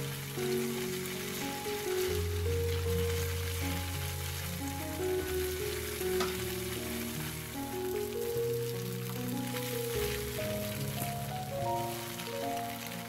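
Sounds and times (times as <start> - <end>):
tofu sizzling in oil: 0.0 - 13.0.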